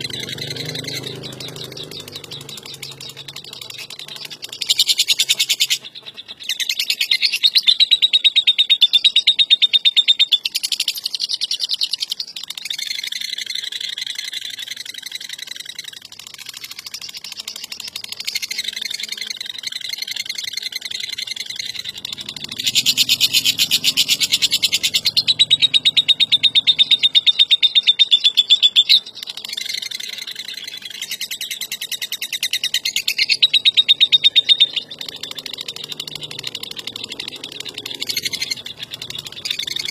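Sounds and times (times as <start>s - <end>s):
lovebird chattering trills: 0.0s - 39.9s.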